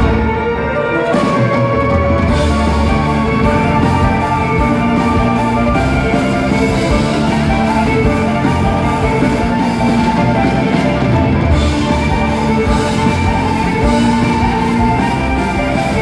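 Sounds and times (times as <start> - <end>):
drum kit: 0.0 - 16.0
guitar: 0.0 - 16.0
symphony orchestra: 0.0 - 16.0
violin: 0.0 - 16.0.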